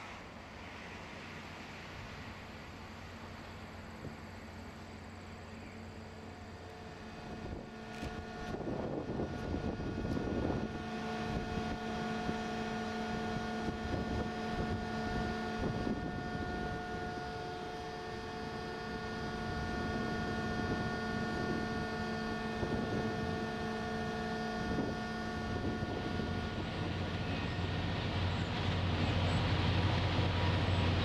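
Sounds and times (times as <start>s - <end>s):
ship engine machinery hum: 0.0s - 31.0s.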